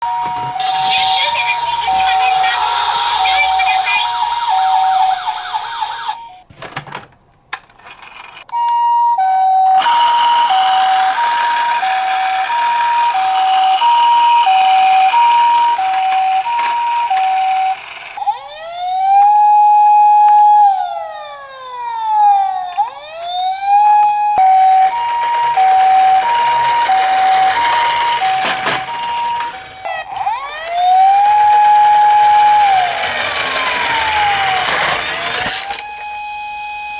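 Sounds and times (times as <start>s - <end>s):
two-tone ambulance siren: 0.0s - 6.4s, 8.5s - 36.9s
wailing siren: 0.0s - 6.4s, 8.6s - 36.9s.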